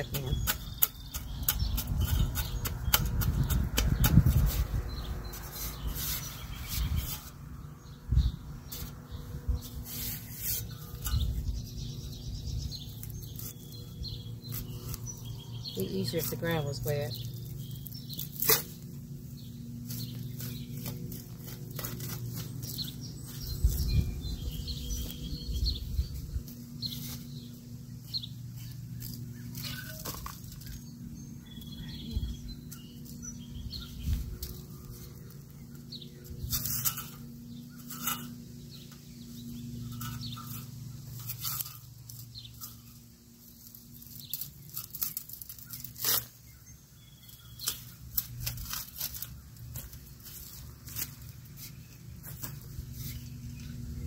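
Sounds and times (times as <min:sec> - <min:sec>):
bulb planter scraping hard soil: 0:00.0 - 0:07.9, 0:08.6 - 0:31.3, 0:32.8 - 0:54.0.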